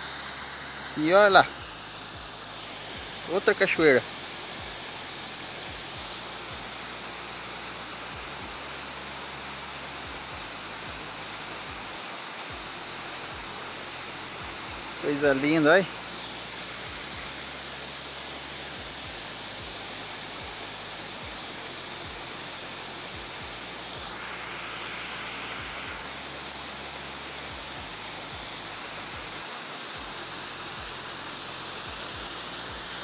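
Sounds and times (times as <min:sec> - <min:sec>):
distant waterfalls rushing: 0:00.0 - 0:33.0.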